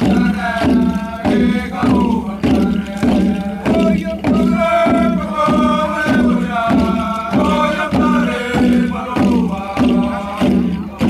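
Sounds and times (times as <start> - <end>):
sharp steady drum beat: 0.0 - 11.0
voices chanting in unison: 0.0 - 11.0.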